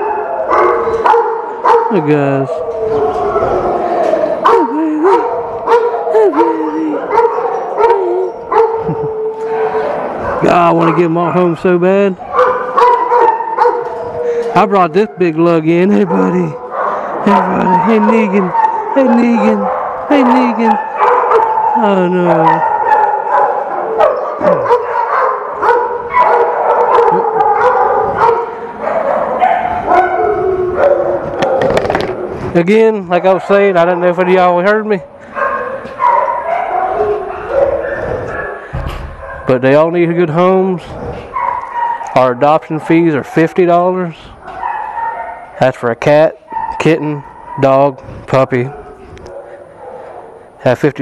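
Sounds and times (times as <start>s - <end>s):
dogs howling and whining: 0.0s - 11.6s, 12.2s - 32.4s, 33.2s - 45.7s, 46.4s - 50.6s
dogs barking: 0.0s - 51.0s.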